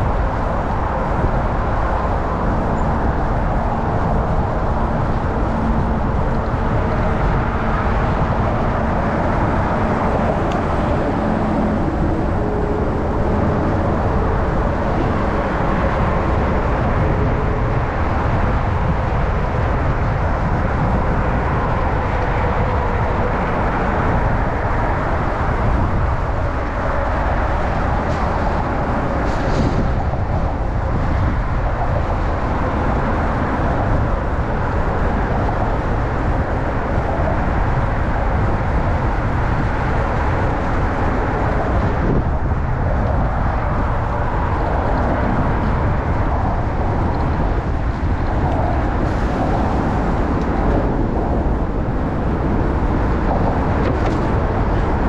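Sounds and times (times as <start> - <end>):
street and traffic noise: 0.0 - 55.0
wind buffeting microphone: 0.0 - 55.0.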